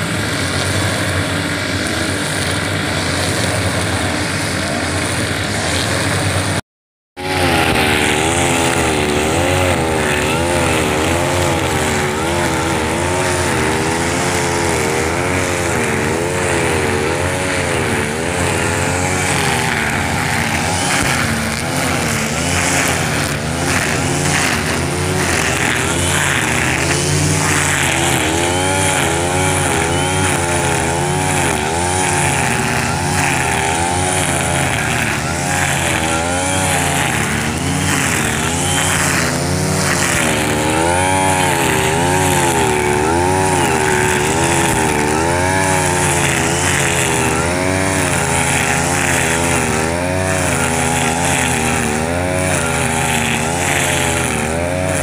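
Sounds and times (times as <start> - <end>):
brush cutter cutting grass: 0.0 - 6.6, 7.2 - 55.0.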